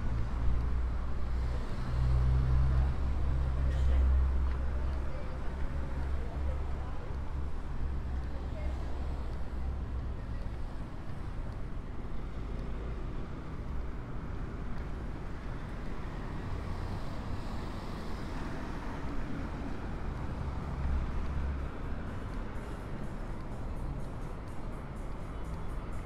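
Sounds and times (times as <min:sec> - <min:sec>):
hum of passing vehicles: 0:00.0 - 0:26.0.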